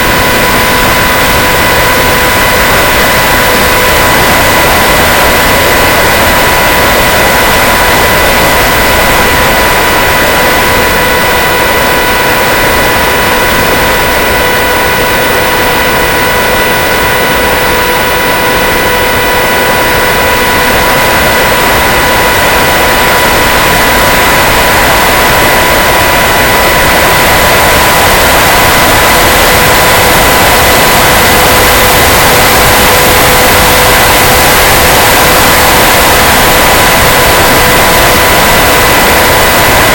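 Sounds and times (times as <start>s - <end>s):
electric motor whine: 0.0s - 39.9s
rushing wind noise: 0.0s - 39.9s.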